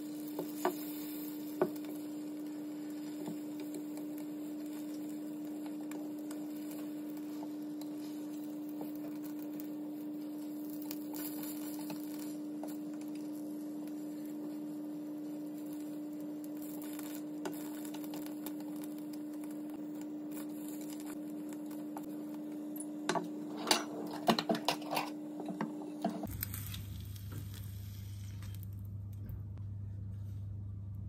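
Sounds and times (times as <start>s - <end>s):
egg sizzling: 0.0s - 28.8s
induction hob hum: 0.0s - 31.0s.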